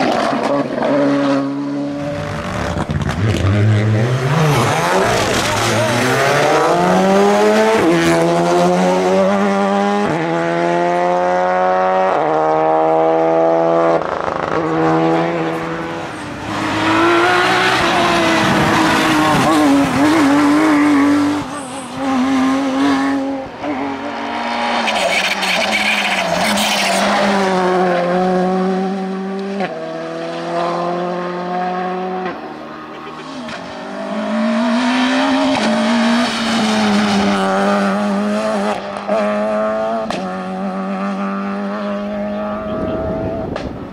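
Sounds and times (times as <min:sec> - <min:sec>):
racing car accelerating: 0:00.0 - 0:43.9
rally car engine revving: 0:00.0 - 0:43.9.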